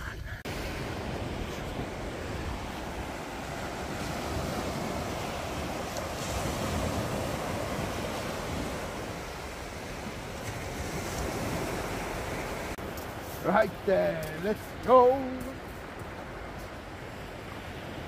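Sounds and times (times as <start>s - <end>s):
small waves breaking on beach: 0.4s - 18.0s.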